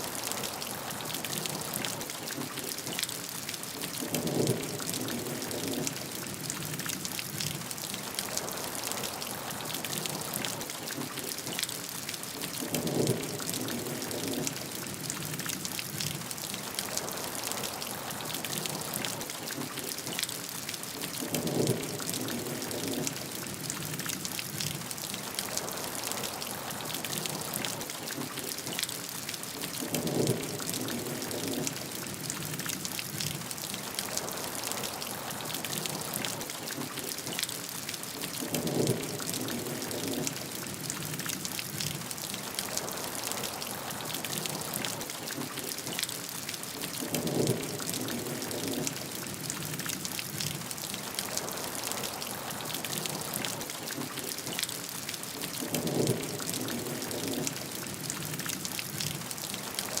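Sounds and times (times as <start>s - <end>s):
low swell of rain: 0.0s - 60.0s
steady rain patter: 0.0s - 60.0s.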